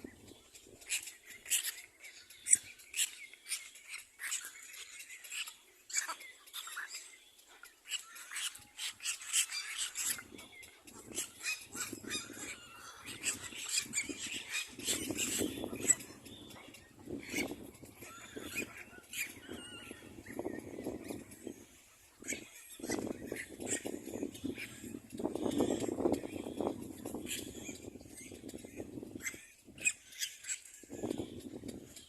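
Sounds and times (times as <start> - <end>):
chicks squeaky begging calls: 0.1 - 32.0.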